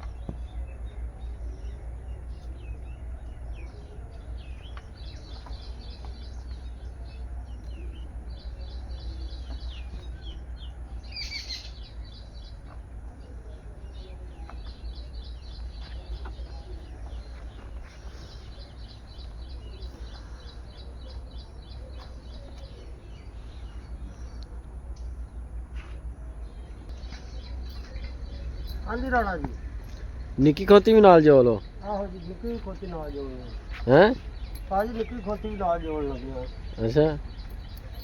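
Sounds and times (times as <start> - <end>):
small birds chirping: 0.0 - 38.0
steady low rumble: 0.0 - 38.0.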